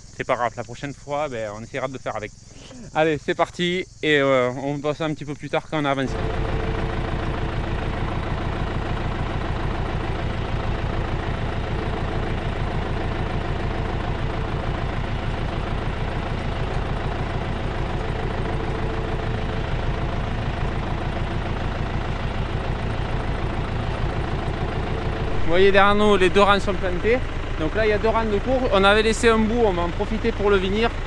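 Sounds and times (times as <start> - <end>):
tractor diesel engine running: 0.0 - 4.3, 5.9 - 31.0.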